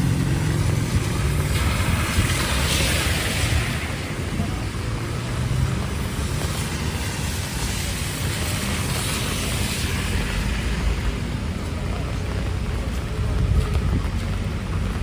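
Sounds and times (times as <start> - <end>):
heavy rain hissing: 0.0 - 15.0
wind buffeting microphone: 0.0 - 15.0.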